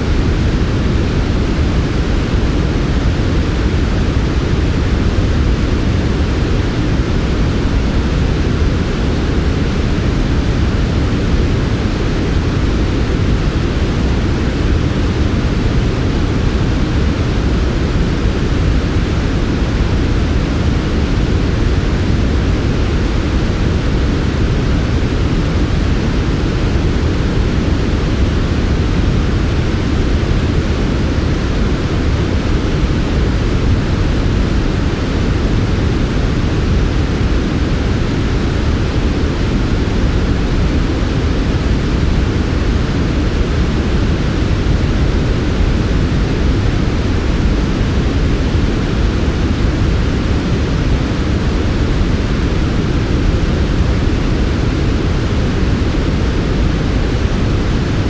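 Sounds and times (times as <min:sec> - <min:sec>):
white noise: 0:00.0 - 0:58.0.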